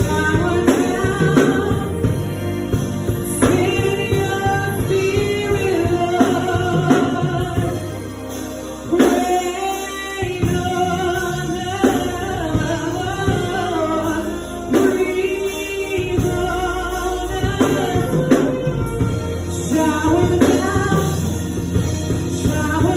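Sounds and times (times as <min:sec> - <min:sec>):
gospel choir singing: 0:00.0 - 0:22.9
instrumental backing with drums: 0:00.0 - 0:22.9.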